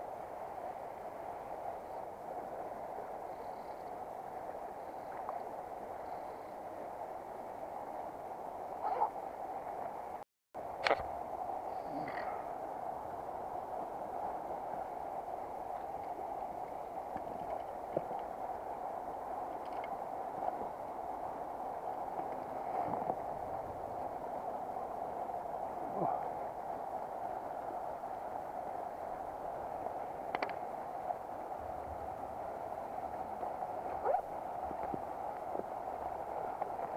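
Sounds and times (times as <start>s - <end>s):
river flowing over stones: 0.0s - 6.0s, 6.6s - 36.9s.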